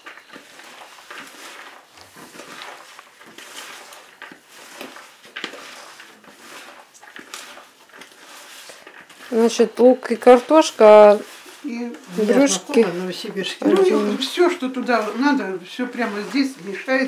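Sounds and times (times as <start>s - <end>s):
hands mixing squishy filling: 0.0s - 17.0s.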